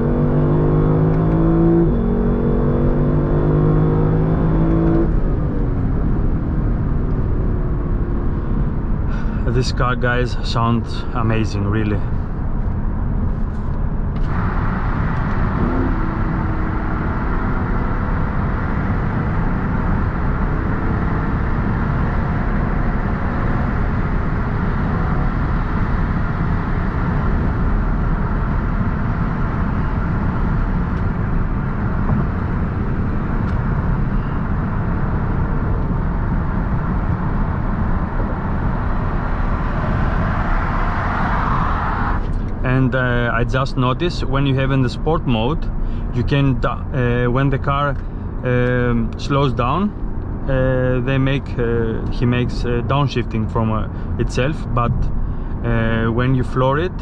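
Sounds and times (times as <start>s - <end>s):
car engine running: 0.0s - 57.0s
road and tyre noise: 0.0s - 57.0s.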